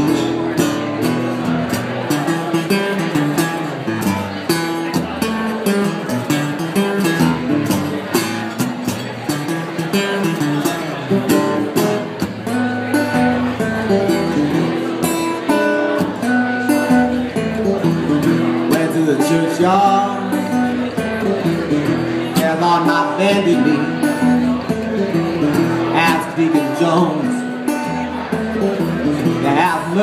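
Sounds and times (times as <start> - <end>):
strummed blues guitar: 0.0 - 30.0.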